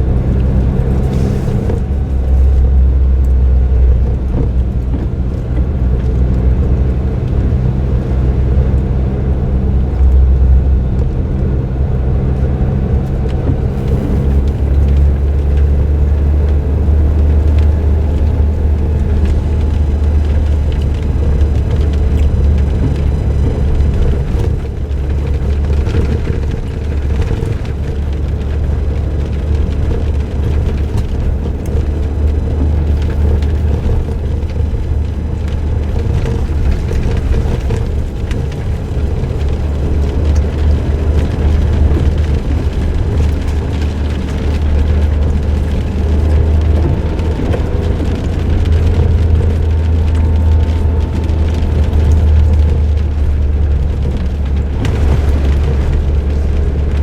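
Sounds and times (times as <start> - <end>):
car engine low rumble: 0.0 - 57.0
road noise inside moving car: 0.0 - 57.0.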